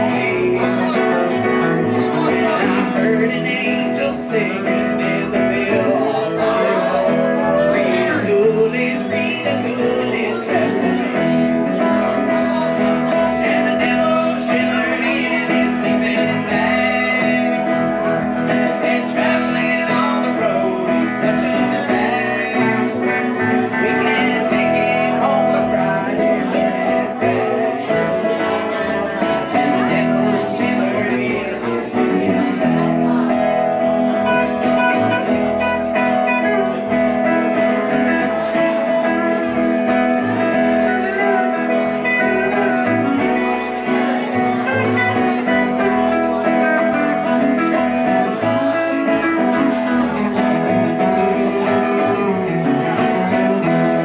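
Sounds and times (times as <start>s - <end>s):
electric and acoustic guitars: 0.0s - 54.0s
person singing: 0.0s - 54.0s
upright bass: 0.0s - 54.0s.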